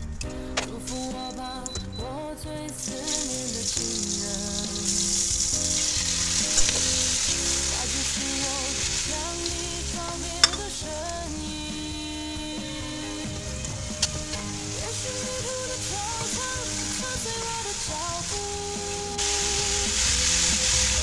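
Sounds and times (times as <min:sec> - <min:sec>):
background music: 0:00.0 - 0:21.0
oil sizzling in a wok: 0:02.8 - 0:21.0.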